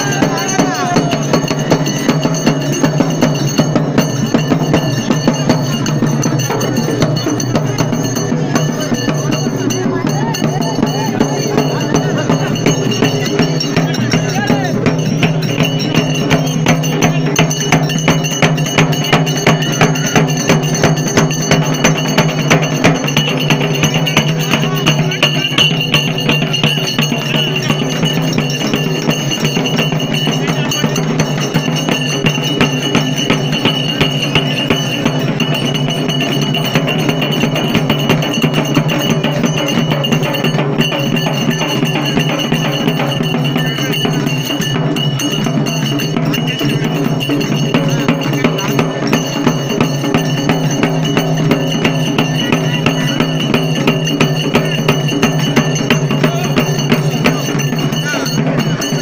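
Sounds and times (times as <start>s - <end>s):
fast loud drumming: 0.0s - 59.0s
music: 0.0s - 59.0s.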